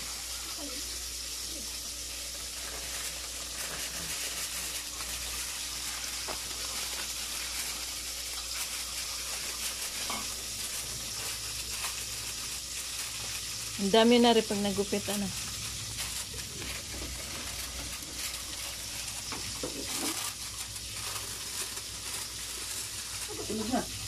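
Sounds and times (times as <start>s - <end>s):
plastic packaging rustling: 0.0s - 24.0s
steady hiss: 0.0s - 24.0s.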